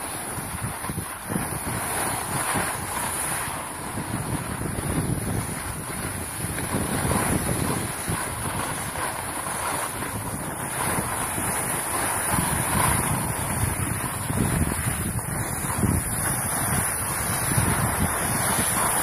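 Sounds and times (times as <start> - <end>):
skis sliding on snow: 0.0 - 19.0
wind buffeting microphone: 0.0 - 19.0.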